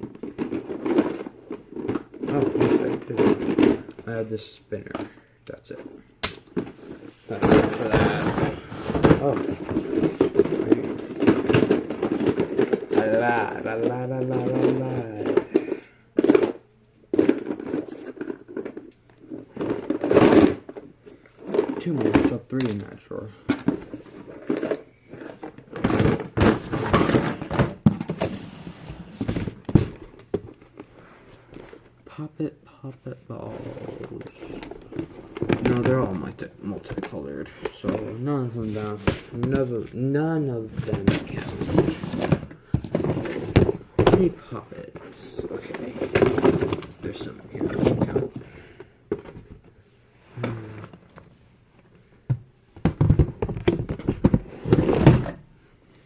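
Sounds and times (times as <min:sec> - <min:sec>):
plastic toys clattering: 0:00.0 - 0:04.2, 0:06.5 - 0:30.9, 0:33.4 - 0:40.0, 0:40.6 - 0:49.7, 0:52.2 - 0:55.4.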